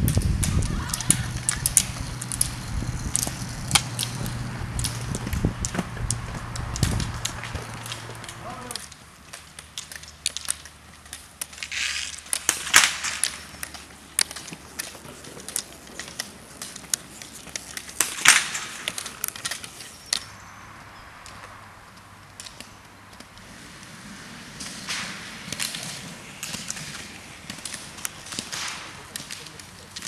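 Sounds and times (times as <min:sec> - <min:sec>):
roller-ski wheels hissing: 0:00.0 - 0:09.0, 0:11.2 - 0:21.6, 0:23.2 - 0:30.0
ski pole tips clicking on asphalt: 0:00.0 - 0:30.0.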